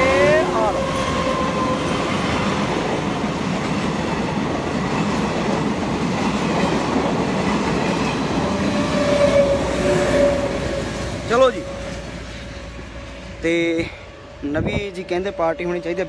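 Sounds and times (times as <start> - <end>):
train coaches rolling on track: 0.0 - 16.0.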